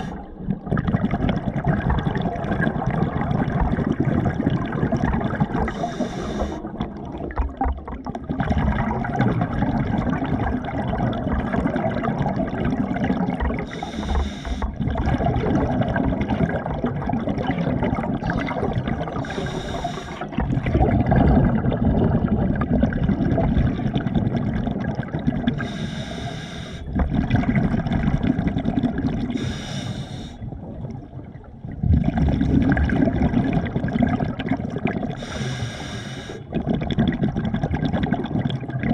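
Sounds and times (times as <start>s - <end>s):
water churning and sloshing: 0.0s - 38.9s.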